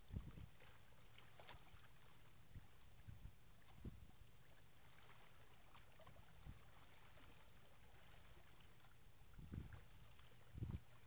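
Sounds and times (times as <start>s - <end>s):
faint low background rumble: 0.0s - 11.0s.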